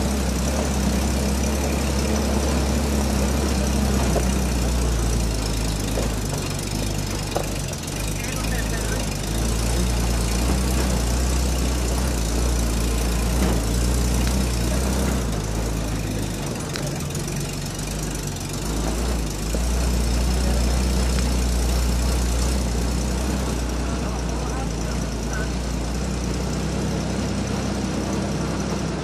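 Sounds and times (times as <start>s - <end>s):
car engine droning uphill: 0.0s - 29.0s.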